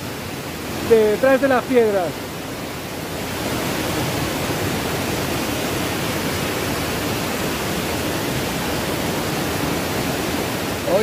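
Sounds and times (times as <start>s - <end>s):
water rushing down cascades: 0.0s - 11.0s.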